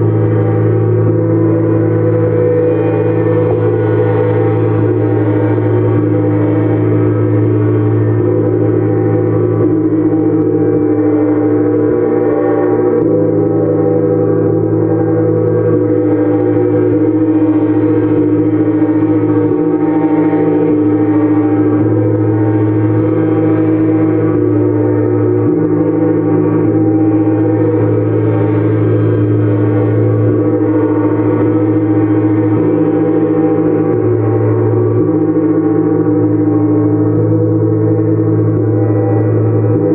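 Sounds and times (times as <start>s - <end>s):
gongs ringing: 0.0s - 39.9s.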